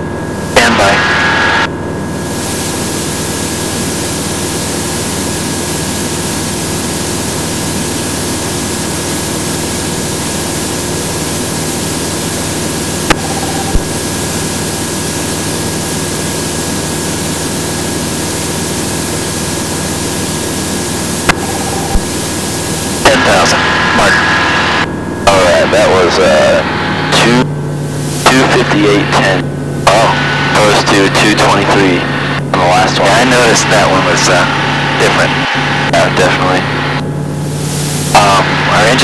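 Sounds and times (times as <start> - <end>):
aircraft engine and propeller: 0.0 - 39.0.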